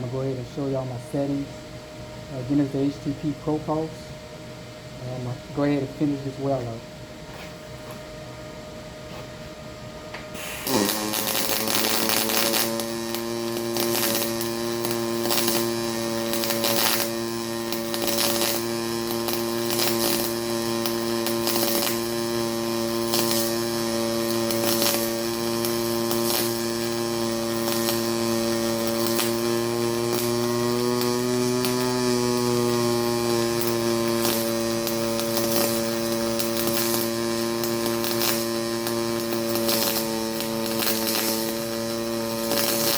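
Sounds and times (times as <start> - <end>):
welding arc buzzing and crackling: 0.0 - 42.9.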